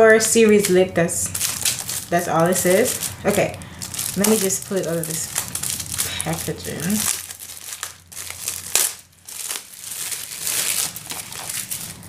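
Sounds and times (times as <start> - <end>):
packaging crinkling and rustling: 0.2 - 12.0.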